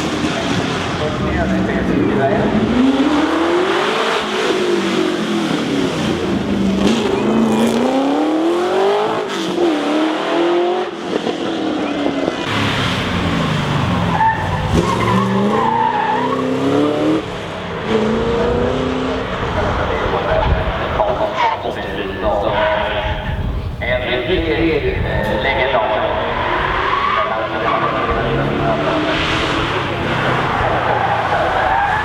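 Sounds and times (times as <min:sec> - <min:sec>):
sports car engines accelerating: 0:00.0 - 0:23.6, 0:25.1 - 0:32.0.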